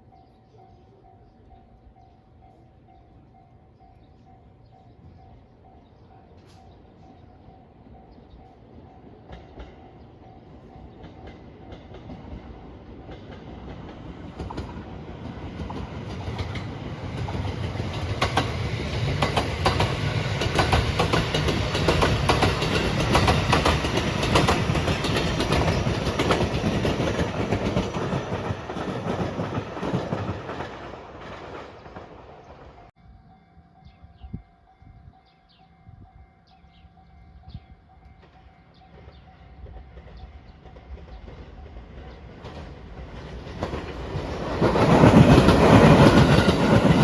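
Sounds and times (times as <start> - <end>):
train rumbling past: 0.0 - 47.0.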